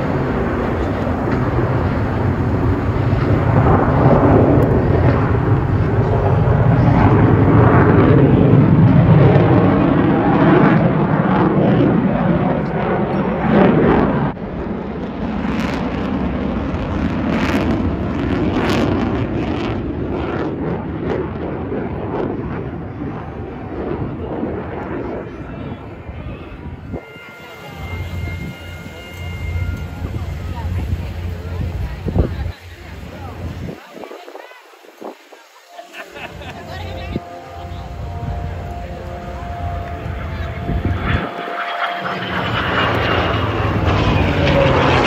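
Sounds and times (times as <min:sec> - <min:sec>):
airplane engine rushing: 0:00.0 - 0:45.0.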